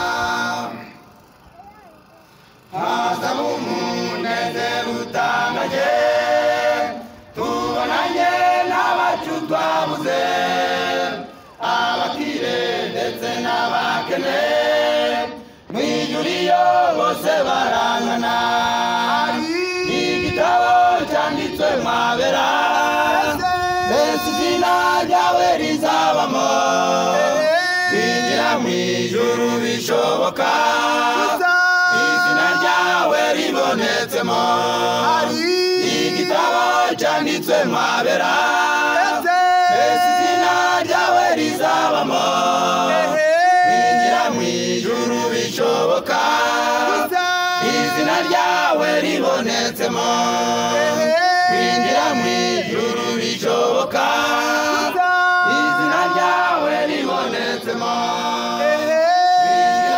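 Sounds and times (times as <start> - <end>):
choir singing a hymn: 0.0 - 1.2, 2.6 - 59.9.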